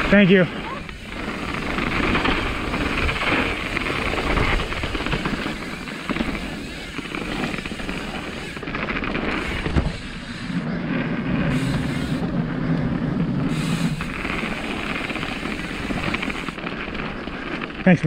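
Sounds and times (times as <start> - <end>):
wind on microphone: 0.0 - 17.8
tyres rolling on dirt: 0.0 - 18.0.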